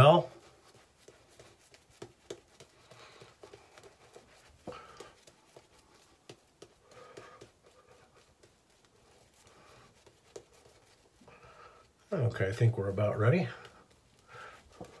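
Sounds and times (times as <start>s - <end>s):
shaving brush wet brushing: 0.0s - 15.0s.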